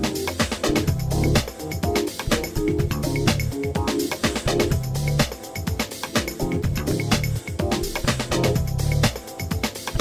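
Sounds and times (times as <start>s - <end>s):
upbeat music with bass line: 0.0s - 10.0s.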